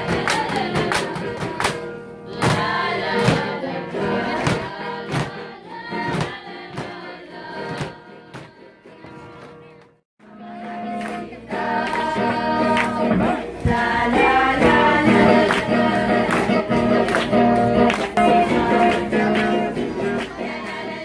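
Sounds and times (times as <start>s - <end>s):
group singing folk song: 0.0s - 21.0s
hands clapping a beat: 0.0s - 21.0s.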